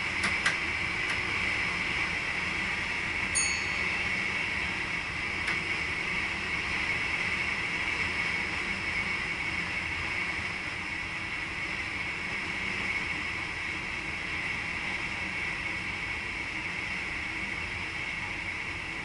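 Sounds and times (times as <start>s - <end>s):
steady high hum: 0.0s - 19.0s.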